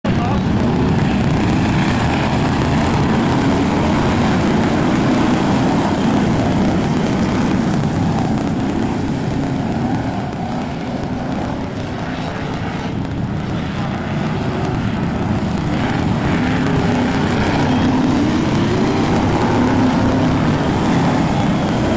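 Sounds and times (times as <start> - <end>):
racing car engines: 0.0 - 21.9.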